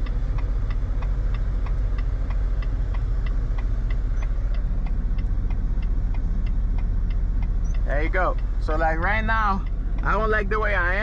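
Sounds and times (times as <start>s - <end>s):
diesel engine idling: 0.0s - 11.0s
light ticking: 0.0s - 11.0s.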